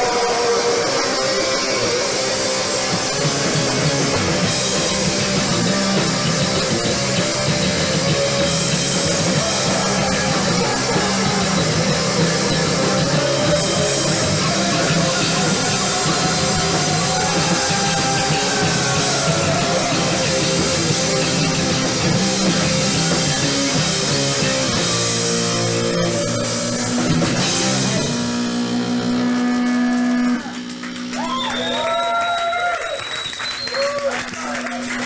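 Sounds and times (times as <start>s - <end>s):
punk rock band playing live: 0.0s - 31.8s.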